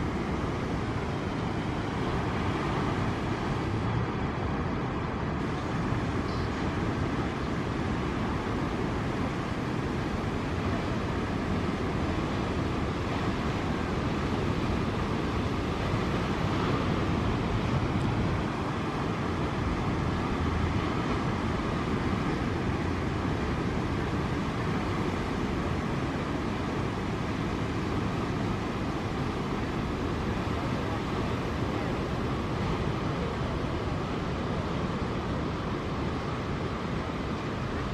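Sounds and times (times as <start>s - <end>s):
ocean surf breaking: 0.0s - 37.9s.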